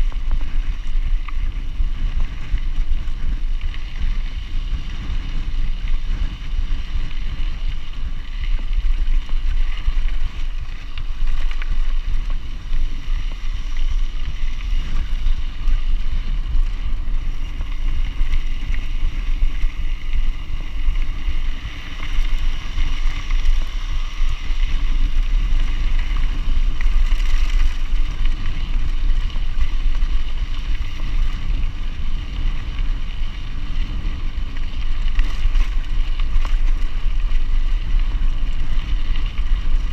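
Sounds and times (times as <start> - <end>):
bike tyres rumbling on gravel: 0.0 - 39.9
wind buffeting microphone: 0.0 - 39.9.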